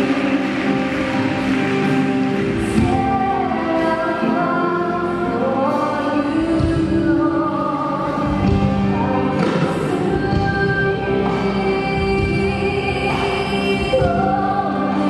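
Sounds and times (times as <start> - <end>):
many voices singing: 0.0 - 15.0.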